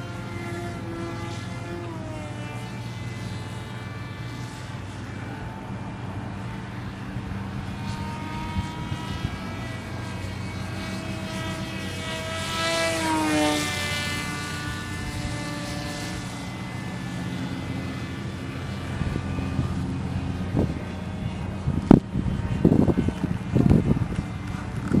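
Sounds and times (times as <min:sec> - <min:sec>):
model plane motor whining: 0:00.0 - 0:25.0.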